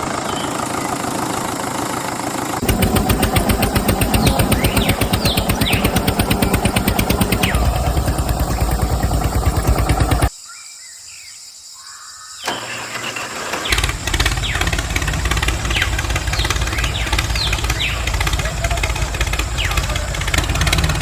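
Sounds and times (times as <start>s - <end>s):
small model engine running: 0.0s - 10.3s, 12.6s - 21.0s.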